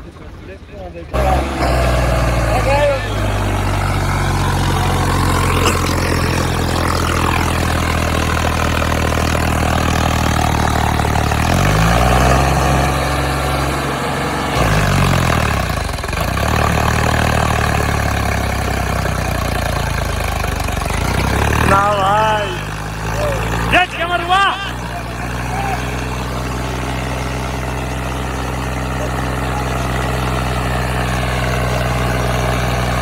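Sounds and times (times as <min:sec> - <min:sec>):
tractor diesel engine labouring: 0:00.0 - 0:33.0.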